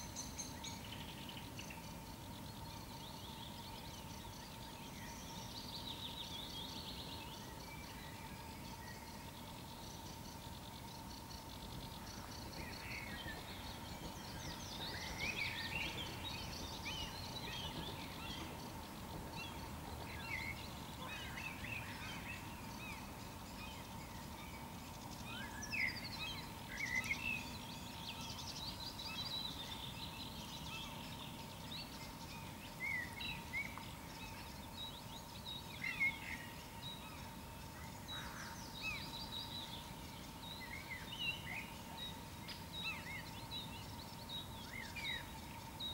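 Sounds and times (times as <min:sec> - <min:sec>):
faint steady whine: 0:00.0 - 0:45.9
songbirds chirping and trilling: 0:00.0 - 0:45.9.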